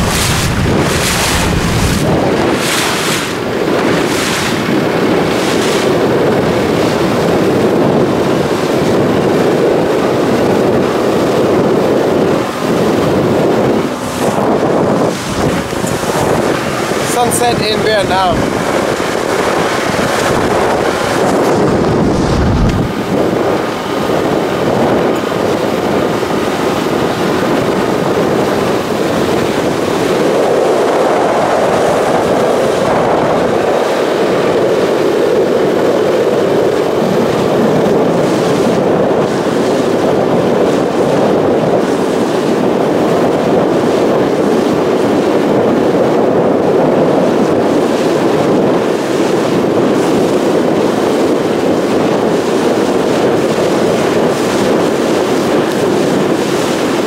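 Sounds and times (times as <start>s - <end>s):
speedboat engine and water rush: 0.0s - 57.0s
wind buffeting microphone: 0.0s - 57.0s.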